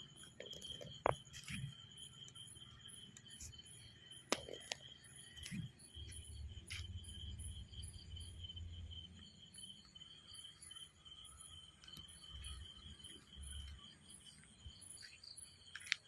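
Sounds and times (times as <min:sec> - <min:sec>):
insects chirping in pulsing trill: 0:00.0 - 0:16.0.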